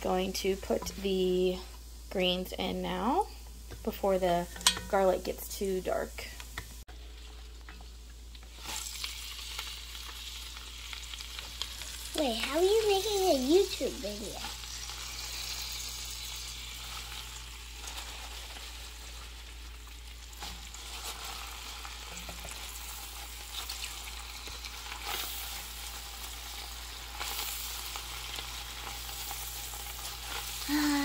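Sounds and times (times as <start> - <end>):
greens sizzling in butter: 0.0 - 31.0.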